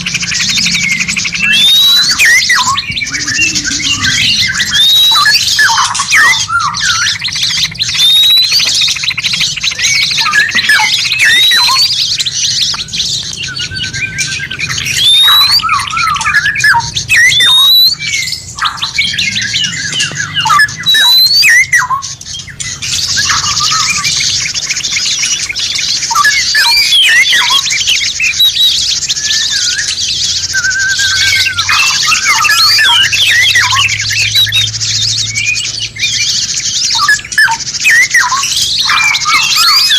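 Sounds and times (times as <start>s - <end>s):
high continuous chatter: 0.0s - 39.9s
songbirds chirping and trilling: 0.0s - 39.9s.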